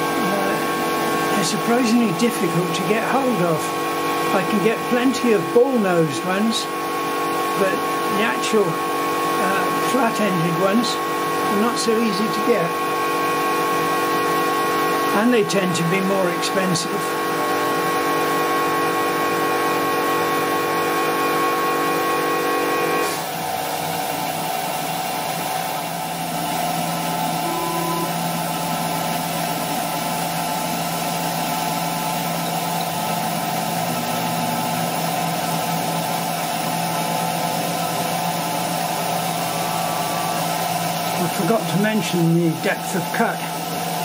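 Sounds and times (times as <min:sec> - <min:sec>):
router spindle whine: 0:00.0 - 0:24.5, 0:25.5 - 0:44.0.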